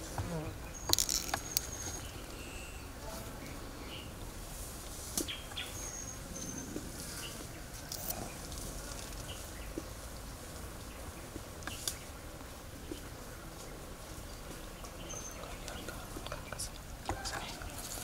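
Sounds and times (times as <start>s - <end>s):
insects buzzing: 0.0s - 18.0s.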